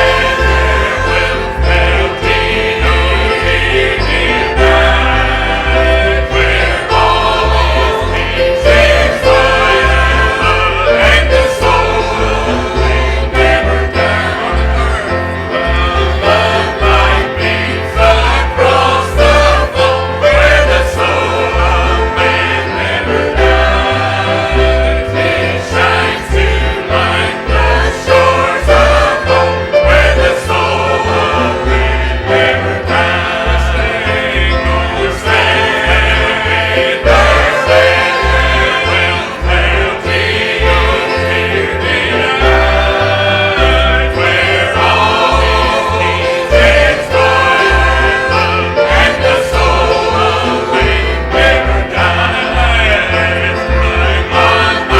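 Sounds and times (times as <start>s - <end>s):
choir singing a gospel hymn: 0.0s - 54.9s
instrumental accompaniment: 0.0s - 54.9s.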